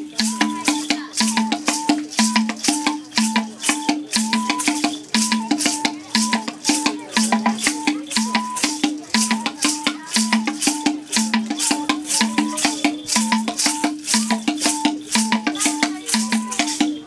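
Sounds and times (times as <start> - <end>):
rattle shaken rhythmically: 0.0 - 17.0.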